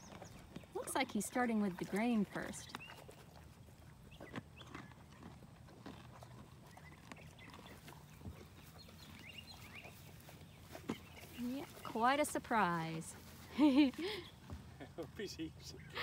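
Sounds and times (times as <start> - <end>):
horse chewing grain: 0.0 - 14.9.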